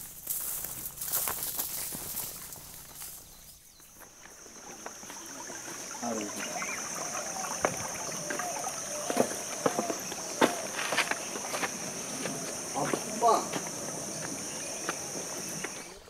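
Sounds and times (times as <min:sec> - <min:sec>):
footsteps on rocks: 0:00.0 - 0:05.9, 0:07.6 - 0:16.0
high insect buzz: 0:00.0 - 0:16.0.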